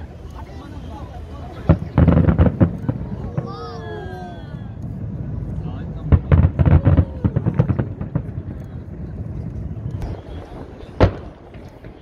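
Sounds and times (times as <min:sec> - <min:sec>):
fireworks bangs and crackles: 0:00.0 - 0:12.0
loud firework boom: 0:01.6 - 0:12.0.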